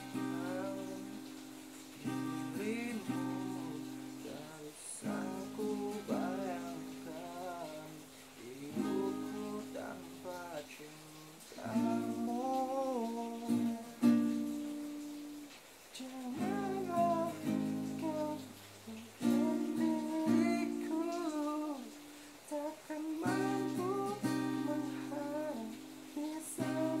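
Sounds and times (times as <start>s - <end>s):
acoustic guitar strumming chords: 0.0s - 15.5s, 16.2s - 27.0s
person singing: 0.0s - 27.0s.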